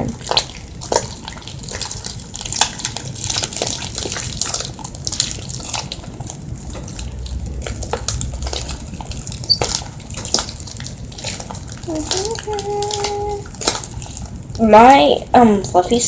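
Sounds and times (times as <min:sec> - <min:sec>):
slime squelching by hand: 0:00.0 - 0:16.0.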